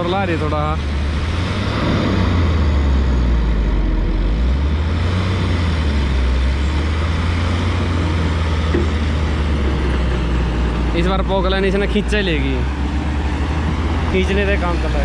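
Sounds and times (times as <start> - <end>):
excavator engine working: 0.0 - 15.0
truck engine straining: 0.0 - 15.0.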